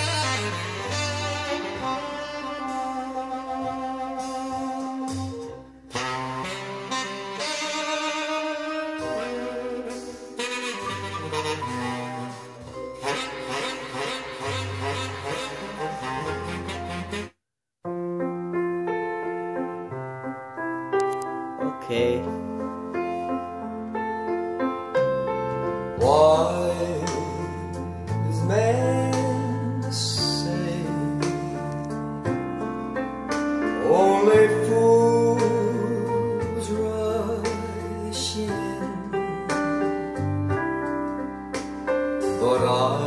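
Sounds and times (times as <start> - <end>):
slow song with piano and singer: 0.0 - 17.3, 17.9 - 43.0.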